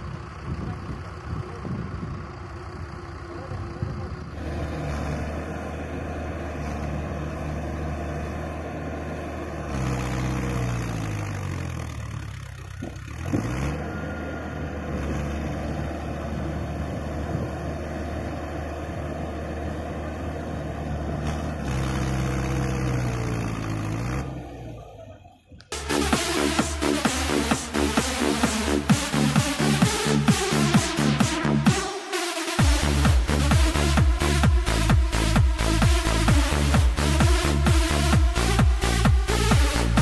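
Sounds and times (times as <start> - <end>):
tractor diesel engine working: 0.0 - 40.0.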